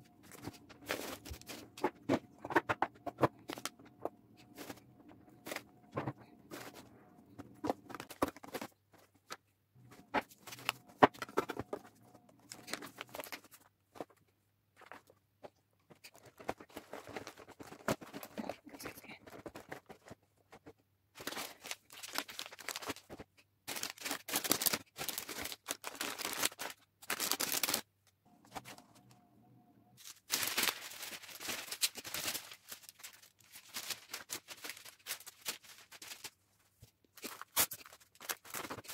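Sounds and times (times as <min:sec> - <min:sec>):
tins and boxes handled: 0:00.1 - 0:27.8, 0:30.0 - 0:38.9
cellophane wrap crinkling: 0:00.2 - 0:14.2, 0:15.9 - 0:27.9, 0:30.0 - 0:38.9.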